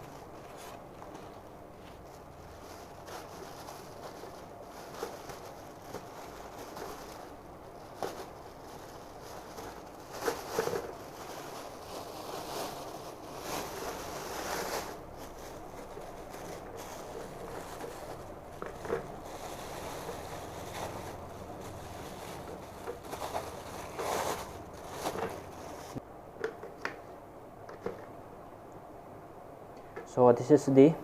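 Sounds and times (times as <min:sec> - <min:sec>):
rustling packaging: 0:00.0 - 0:26.0.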